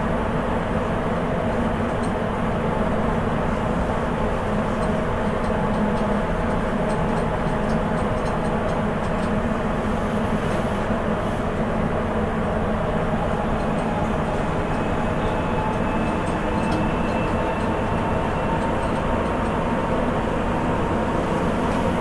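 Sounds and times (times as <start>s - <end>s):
train running noise with low hum: 0.0s - 22.0s.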